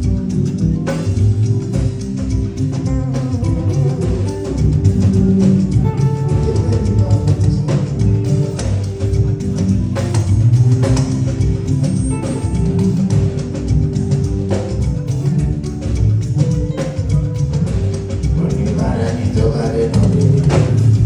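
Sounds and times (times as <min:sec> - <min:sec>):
bass line: 0:00.0 - 0:21.0
drum kit hits: 0:00.0 - 0:21.0
guitar: 0:00.0 - 0:21.0.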